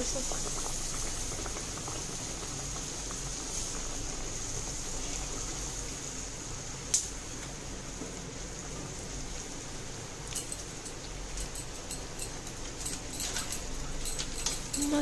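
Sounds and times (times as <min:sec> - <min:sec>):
oil sizzling in frying pan: 0:00.0 - 0:15.0.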